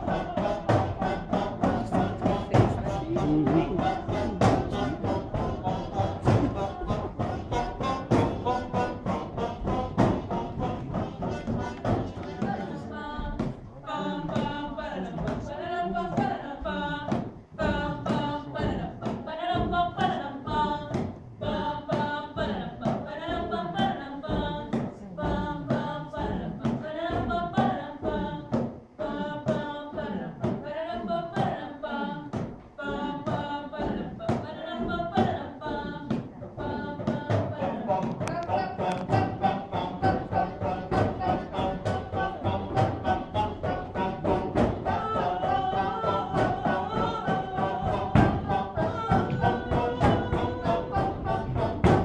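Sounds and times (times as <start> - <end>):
group singing: 0.0 - 52.0
thumping beat: 0.0 - 52.0.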